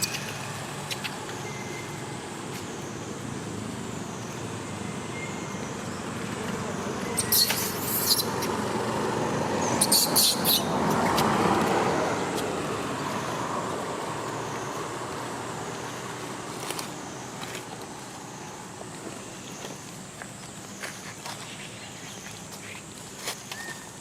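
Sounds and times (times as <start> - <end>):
vehicle passing: 0.0 - 19.3.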